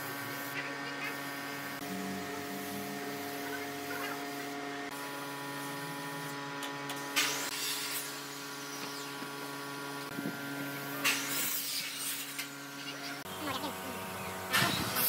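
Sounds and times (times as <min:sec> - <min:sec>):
steady hum with held tones: 0:00.0 - 0:14.6.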